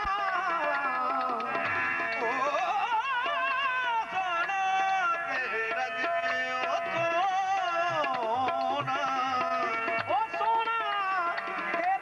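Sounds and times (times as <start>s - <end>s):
harmonium tones: 0.0s - 12.0s
man singing melismatic melody: 0.0s - 12.0s
tabla strokes: 0.0s - 12.0s.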